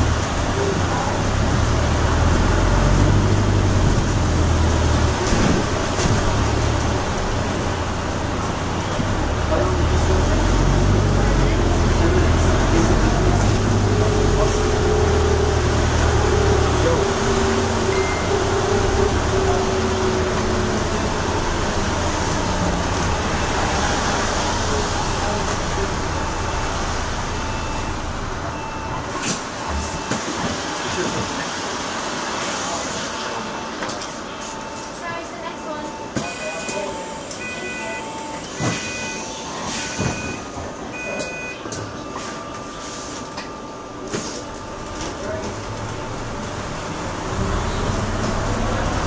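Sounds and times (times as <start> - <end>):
bus drivetrain hum: 0.0 - 49.0
road and tyre noise: 0.0 - 49.0.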